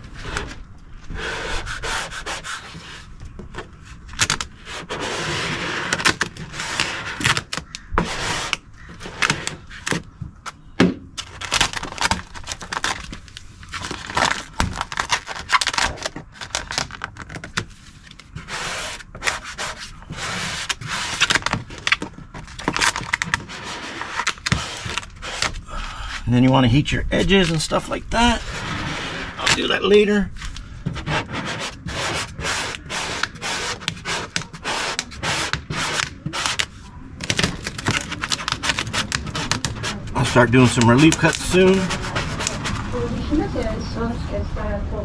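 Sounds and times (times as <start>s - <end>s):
squeegee rubbing and scraping film: 0.0s - 10.6s, 11.2s - 44.2s.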